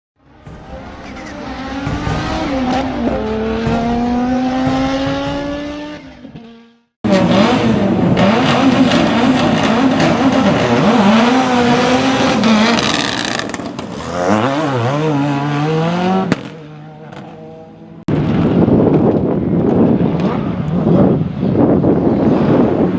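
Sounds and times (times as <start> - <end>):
rally car engine at full throttle: 0.2 - 22.9.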